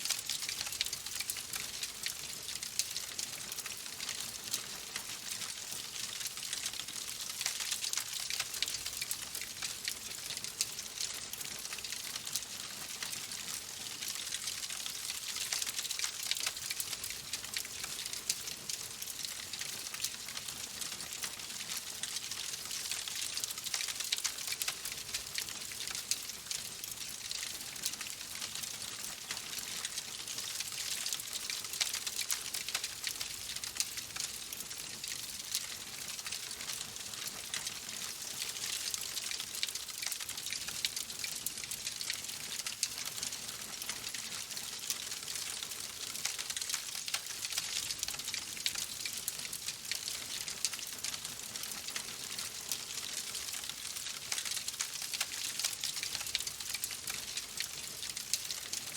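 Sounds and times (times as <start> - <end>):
fireplace fire crackling: 0.0 - 58.8.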